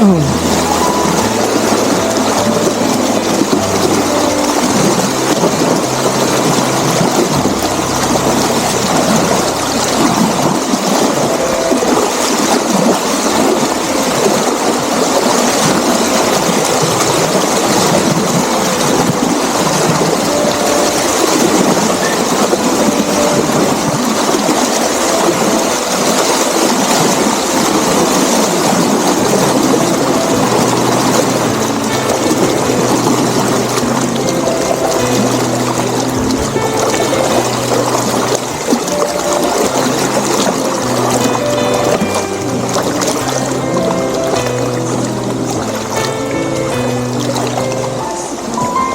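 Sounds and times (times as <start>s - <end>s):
water rushing at a dam: 0.0s - 48.9s.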